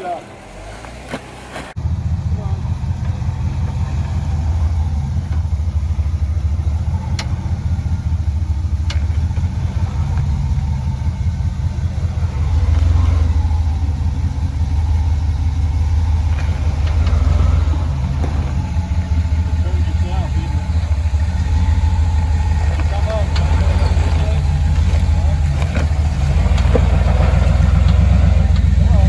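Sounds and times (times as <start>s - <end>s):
engine running at low revs: 0.0s - 29.0s.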